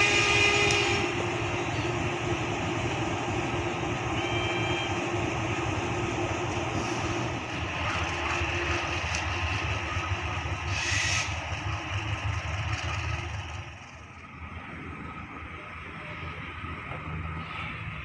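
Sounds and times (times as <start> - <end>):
locomotive engine rumble: 0.0 - 18.0.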